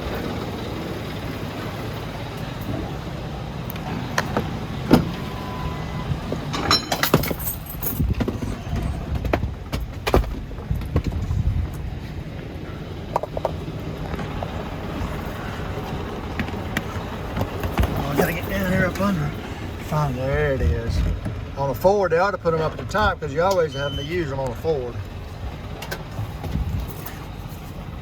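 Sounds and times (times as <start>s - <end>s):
engine rumbling: 0.0s - 28.0s.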